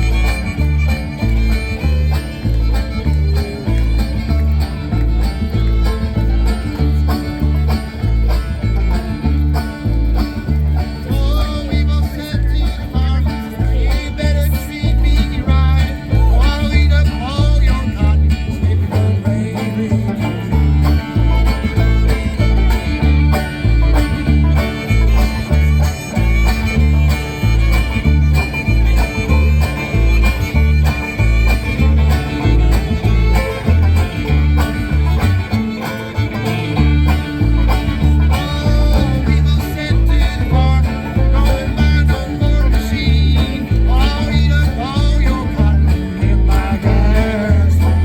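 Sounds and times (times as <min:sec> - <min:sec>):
fiddle: 0:00.0 - 0:48.0
plucked strings: 0:00.0 - 0:48.0
steady bass notes: 0:00.0 - 0:48.0.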